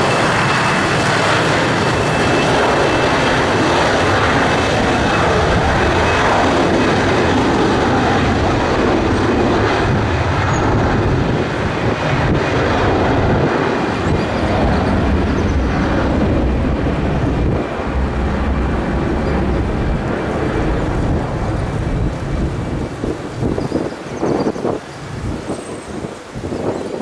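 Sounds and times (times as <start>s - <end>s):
jet airliner engines: 0.0s - 27.0s.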